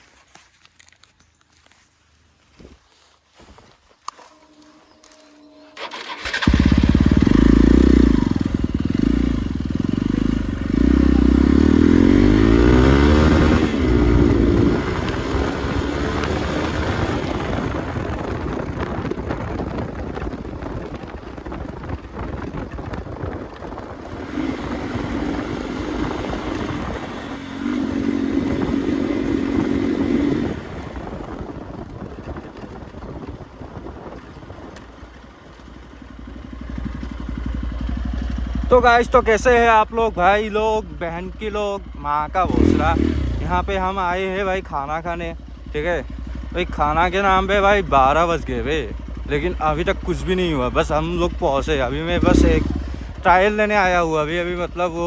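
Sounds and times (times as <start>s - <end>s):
motorcycle engine accelerating: 4.2s - 55.0s.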